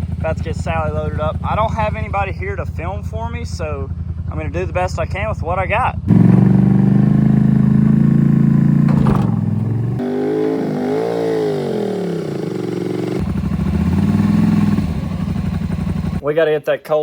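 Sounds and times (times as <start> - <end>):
engine idling and revving: 0.0 - 4.9, 6.0 - 16.2.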